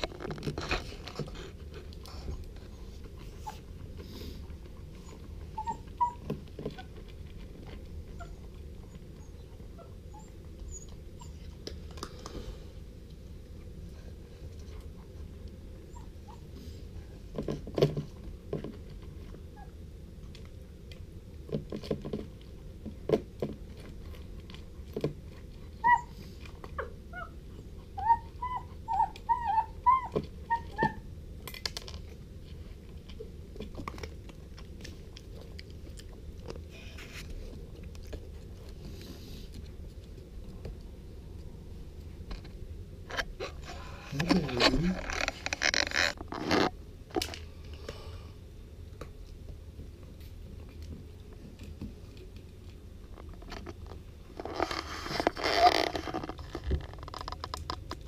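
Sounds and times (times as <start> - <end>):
puppy crunching dry food: 0.0 - 16.4, 17.0 - 48.0, 48.9 - 58.0
steady low hum: 0.0 - 58.0.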